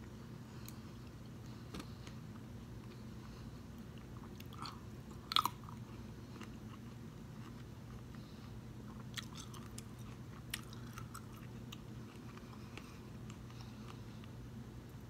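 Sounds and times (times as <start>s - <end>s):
faint low hum: 0.0s - 15.0s
soft chewing: 0.0s - 15.0s.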